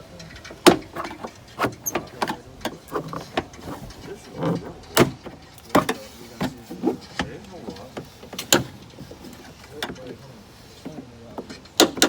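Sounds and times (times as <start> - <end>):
knocks and rattles of parts: 0.0 - 12.0.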